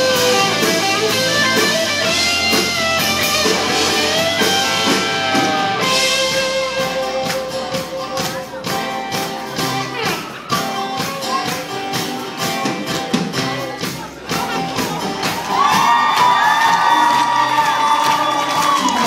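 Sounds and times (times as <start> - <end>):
crowd shouting and cheering: 0.0 - 19.0
live band music: 0.0 - 19.0.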